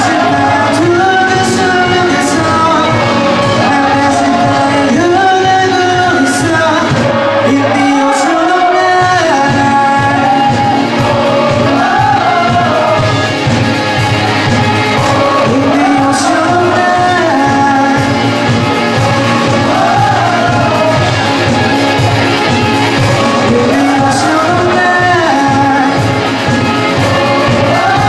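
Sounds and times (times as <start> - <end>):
live rock band playing: 0.0 - 28.0
man singing: 0.0 - 28.0.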